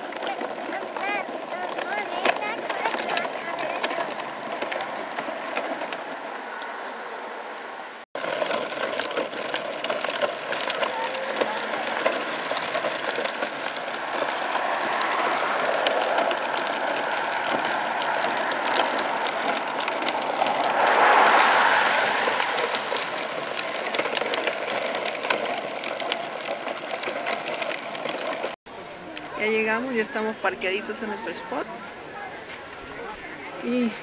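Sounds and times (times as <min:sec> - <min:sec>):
plastic wheels rattling on concrete: 0:00.0 - 0:07.1, 0:08.2 - 0:34.0.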